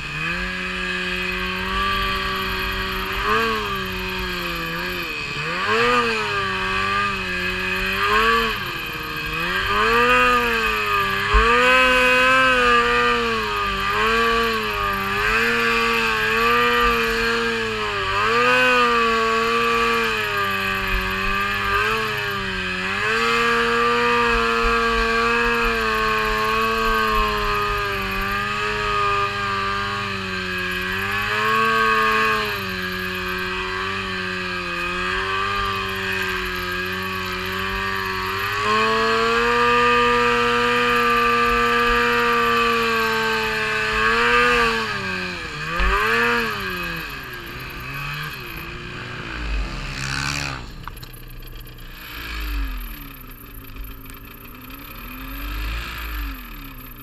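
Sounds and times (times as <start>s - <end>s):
snow bike engine under load: 0.0s - 57.0s.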